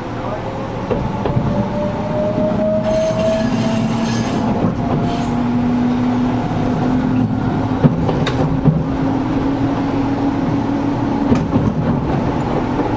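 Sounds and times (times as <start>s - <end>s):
wheels rumbling on rail: 0.0s - 12.9s.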